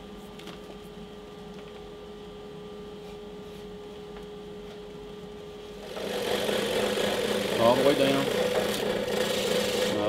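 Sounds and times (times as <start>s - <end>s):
workshop hum: 0.0s - 10.0s.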